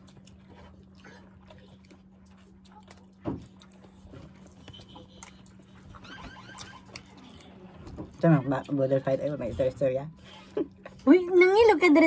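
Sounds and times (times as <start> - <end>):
faint chewing: 0.0 - 11.2
steady low hum: 0.0 - 12.0.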